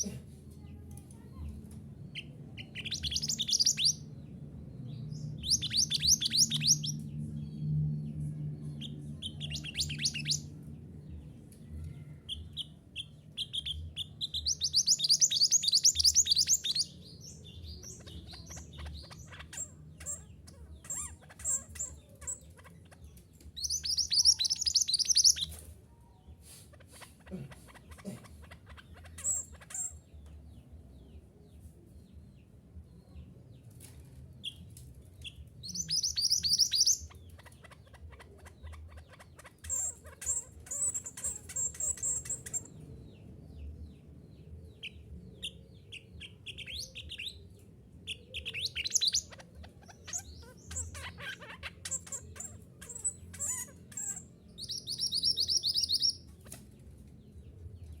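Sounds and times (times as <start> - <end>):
faint low hum: 0.0 - 58.0
bird chirping trills: 2.1 - 33.3, 34.4 - 58.0.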